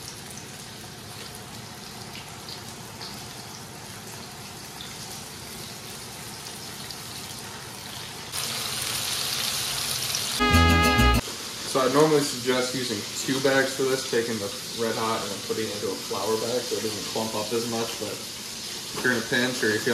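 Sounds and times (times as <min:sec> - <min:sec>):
fish frying in hot oil: 0:00.0 - 0:10.4, 0:12.3 - 0:19.9.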